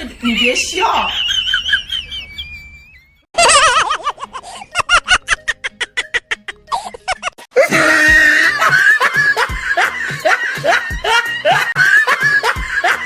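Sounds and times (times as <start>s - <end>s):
person laughing: 0.0s - 13.0s.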